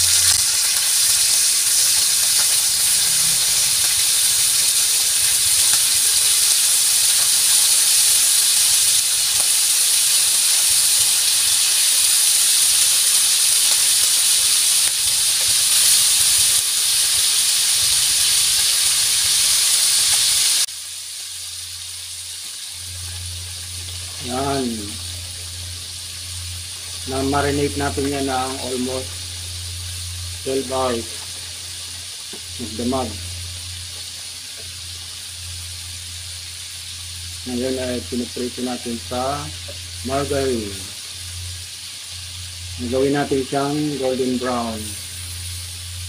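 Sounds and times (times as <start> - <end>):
beef sizzling in frying pan: 0.0 - 46.0.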